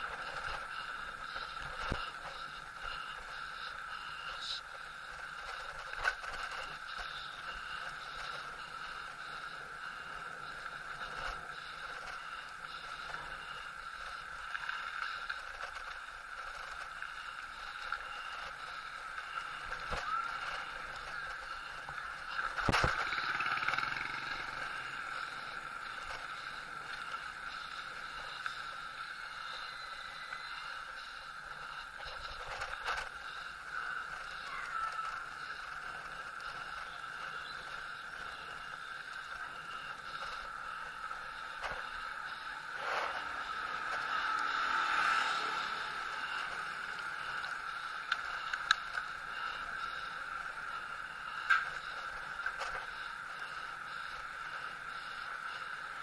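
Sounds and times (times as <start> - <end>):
bicycle riding noise: 0.0 - 56.0
constant high hum: 0.0 - 56.0.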